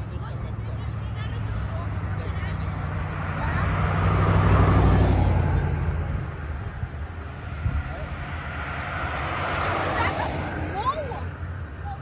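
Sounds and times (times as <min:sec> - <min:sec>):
car approaching: 0:00.0 - 0:12.0
car driving past: 0:01.1 - 0:11.6.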